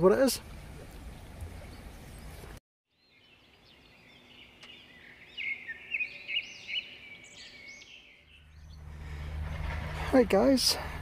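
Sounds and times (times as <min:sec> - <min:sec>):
songbirds chirping: 0:00.0 - 0:10.8.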